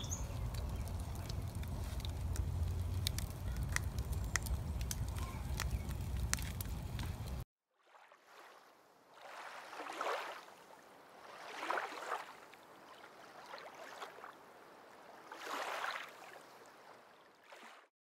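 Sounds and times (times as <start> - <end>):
small waves lapping: 0.0 - 17.9.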